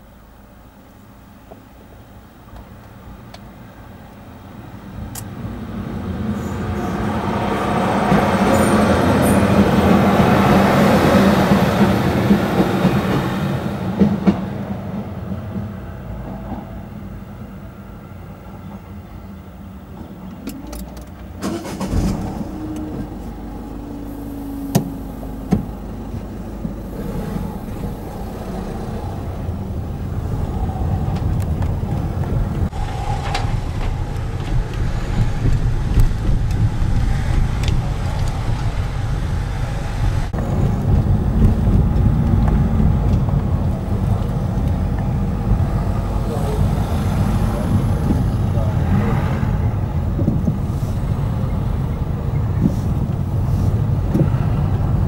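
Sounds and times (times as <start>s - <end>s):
diesel train passing: 3.0s - 55.0s.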